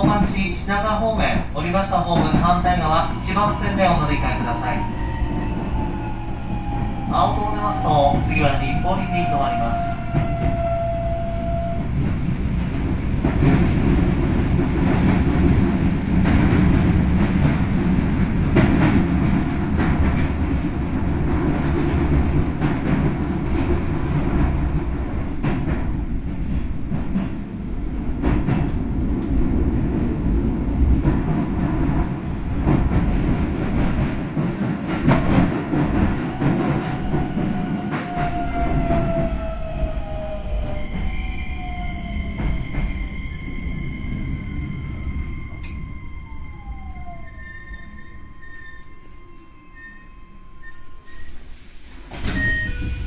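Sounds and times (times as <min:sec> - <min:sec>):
train wheels rumbling on rail: 0:00.0 - 0:48.8.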